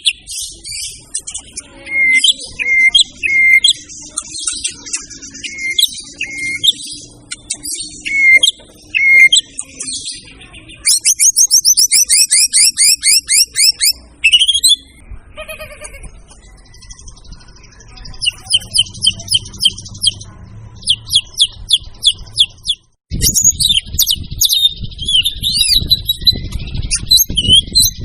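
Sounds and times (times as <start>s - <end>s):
bird singing whistled notes: 0.0s - 15.0s, 16.5s - 28.0s.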